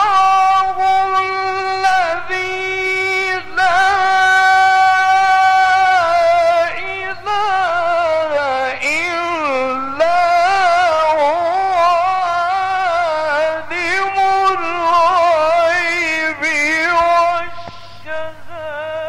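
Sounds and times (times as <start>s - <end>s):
man chanting recitation: 0.0s - 19.0s.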